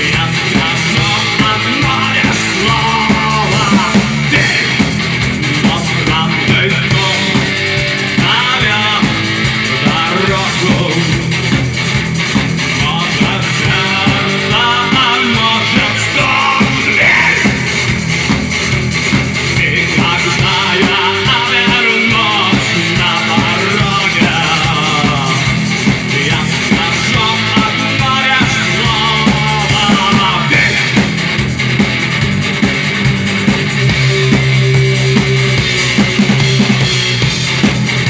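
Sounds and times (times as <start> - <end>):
rock band playing: 0.0 - 38.0.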